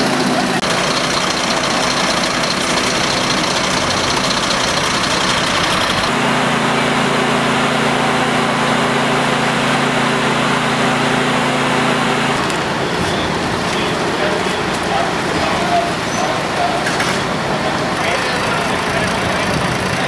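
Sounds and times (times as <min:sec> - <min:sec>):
vehicle engines idling: 0:00.0 - 0:20.0.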